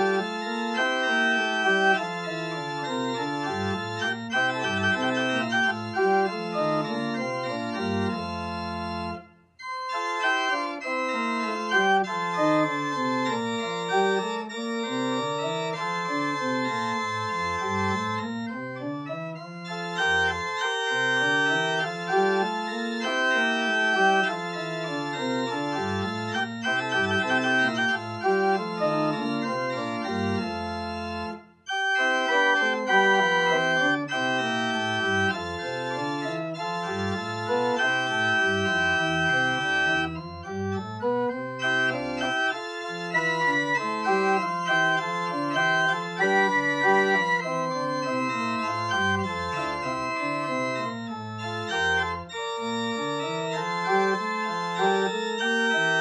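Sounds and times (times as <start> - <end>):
organ playing chords: 0.0 - 56.0.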